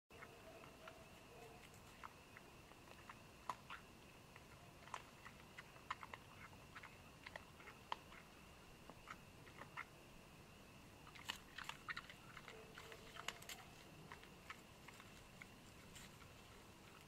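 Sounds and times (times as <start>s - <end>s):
hog chewing crunchily: 0.1s - 10.0s, 10.9s - 17.0s.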